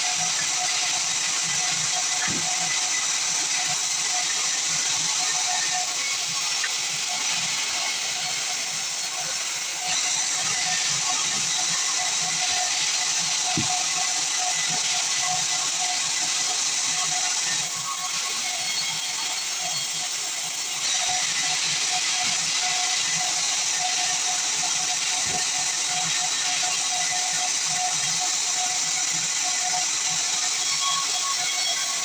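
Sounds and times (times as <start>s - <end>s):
band saw sawing log: 0.0s - 32.0s.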